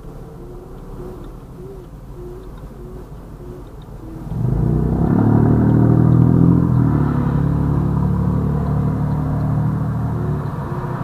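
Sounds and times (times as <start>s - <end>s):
motor engine rumbling: 0.0s - 11.0s.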